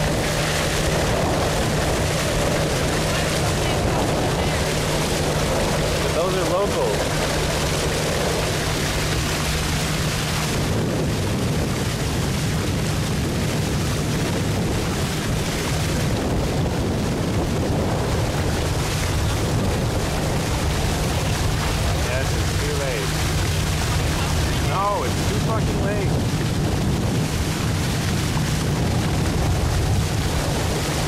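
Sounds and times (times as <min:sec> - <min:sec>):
outboard motor running: 0:00.0 - 0:31.0
water rushing past hull: 0:00.0 - 0:31.0
wind rumbling on microphone: 0:00.0 - 0:31.0.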